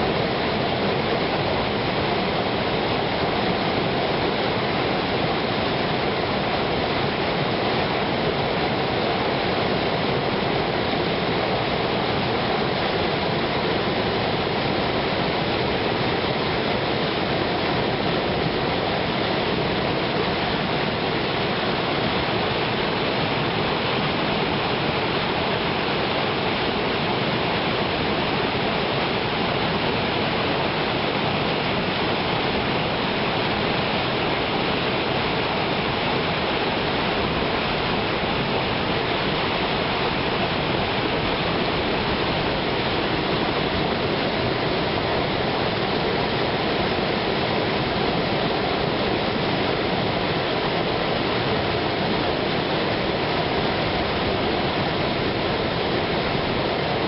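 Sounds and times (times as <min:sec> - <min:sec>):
river water rushing over rapids: 0:00.0 - 0:57.0.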